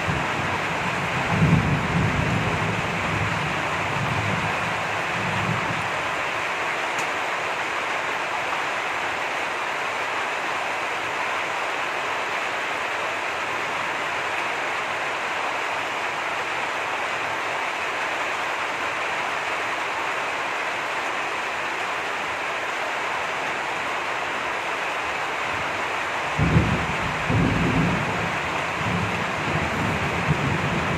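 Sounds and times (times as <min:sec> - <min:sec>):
heavy rain falling: 0:00.0 - 0:30.9.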